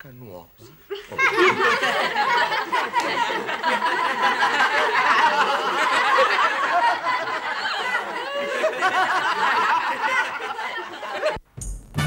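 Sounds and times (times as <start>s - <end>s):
children laughing and shouting: 0.9s - 11.4s.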